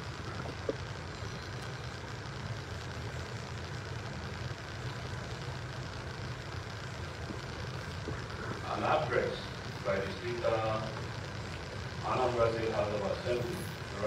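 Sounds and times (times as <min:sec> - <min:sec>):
even hiss: 0:00.0 - 0:14.0
low hum: 0:00.0 - 0:14.0.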